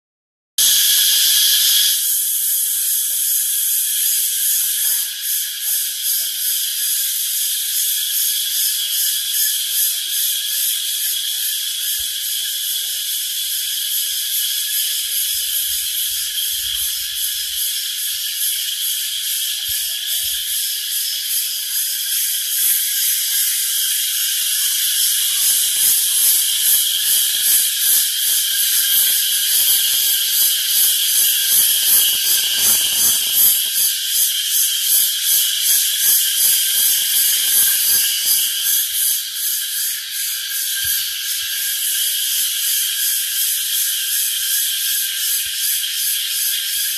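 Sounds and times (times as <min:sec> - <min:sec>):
crickets chirping: 0:00.6 - 0:46.9.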